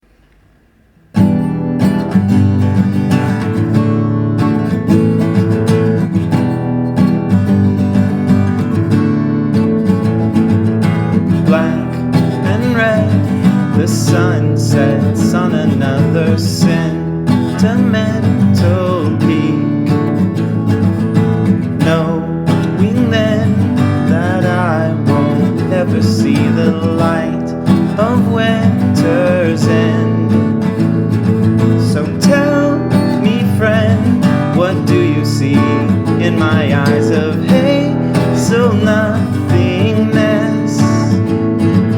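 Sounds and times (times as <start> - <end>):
strummed acoustic guitar: 1.0 - 41.9.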